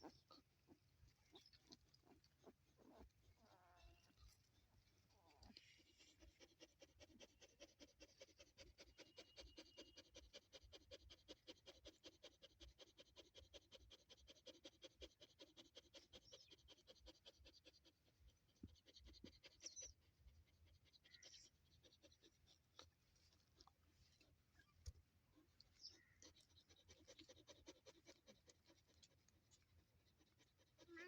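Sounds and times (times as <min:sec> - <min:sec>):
dog panting: 0:00.0 - 0:24.3, 0:25.4 - 0:31.0.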